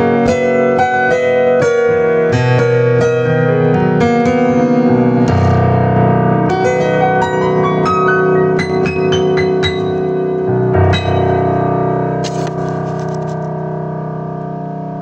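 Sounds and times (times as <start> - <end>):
piano ballad: 0.0 - 15.0.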